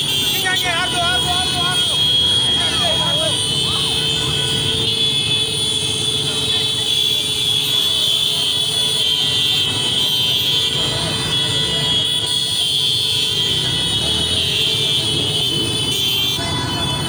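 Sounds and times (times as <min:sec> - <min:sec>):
horns sounding: 0:00.0 - 0:17.0
motorcycle engines running: 0:00.0 - 0:17.0.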